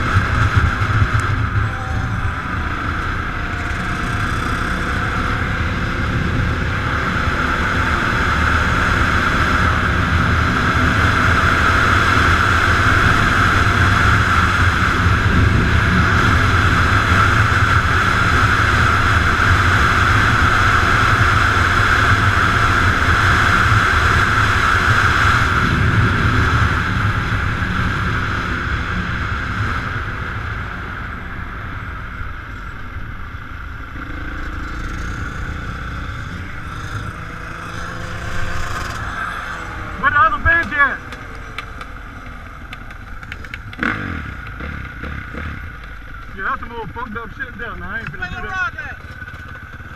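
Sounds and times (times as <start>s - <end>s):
constant rushing noise: 0.0s - 49.9s
dirt bike engines running: 0.0s - 49.9s.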